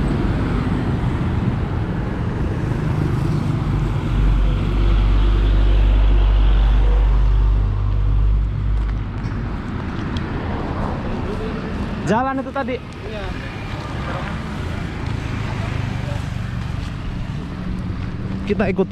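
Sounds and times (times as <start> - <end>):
road traffic: 0.0 - 18.9.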